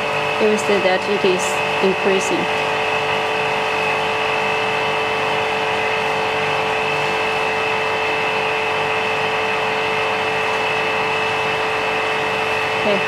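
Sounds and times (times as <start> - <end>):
vacuum pump whining: 0.0 - 13.0.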